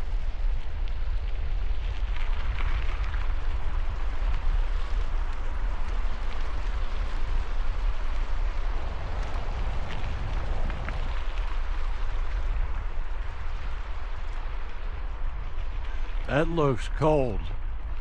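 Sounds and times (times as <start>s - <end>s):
wind buffeting camera microphone: 0.0s - 16.3s.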